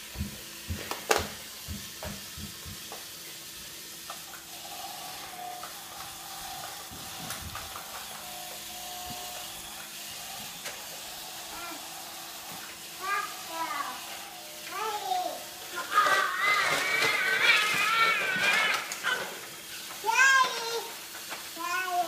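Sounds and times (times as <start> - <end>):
faint motor whine: 0.0 - 22.0
toy train running on track: 0.0 - 22.0.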